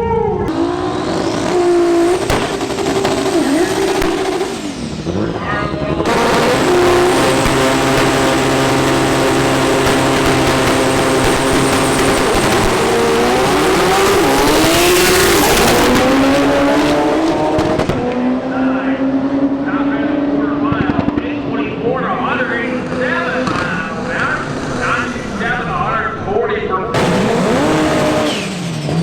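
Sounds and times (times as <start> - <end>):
car engine revving hard: 0.5 - 29.0.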